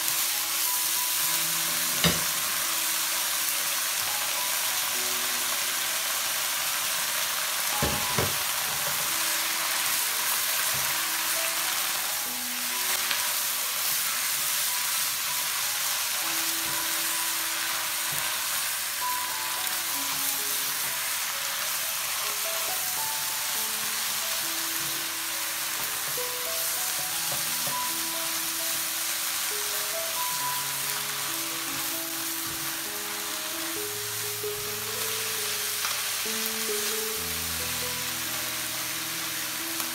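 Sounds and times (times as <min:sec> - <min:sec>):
food sizzling in hot oil: 0:00.0 - 0:39.9
spatula stir-frying in wok: 0:00.0 - 0:39.9.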